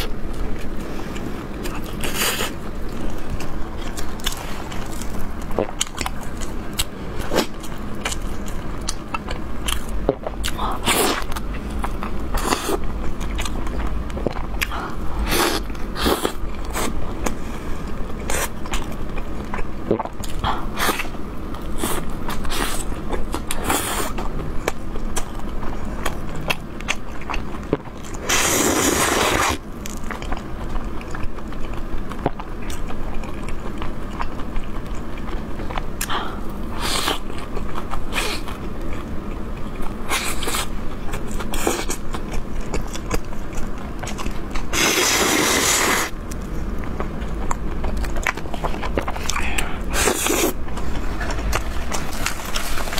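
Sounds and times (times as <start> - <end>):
chewing crisp bread: 0.0 - 52.9.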